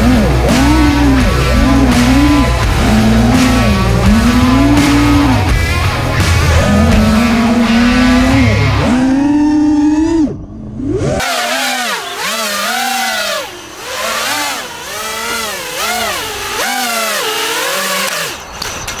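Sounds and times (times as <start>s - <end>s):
drone motors whining and revving: 0.0s - 19.0s.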